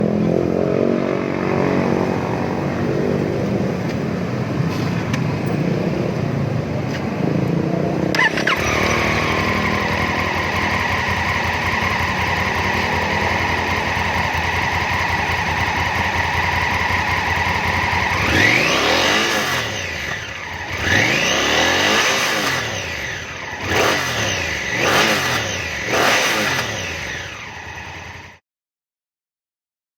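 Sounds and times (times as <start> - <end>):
motorcycle engine idling and revving: 0.0 - 28.4.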